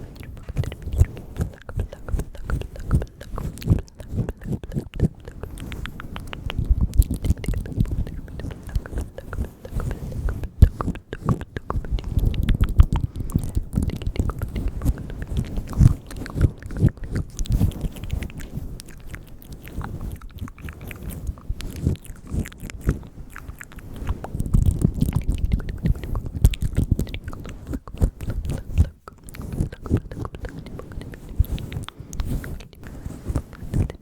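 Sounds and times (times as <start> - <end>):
wet tongue and lip clicks: 0.0 - 34.0.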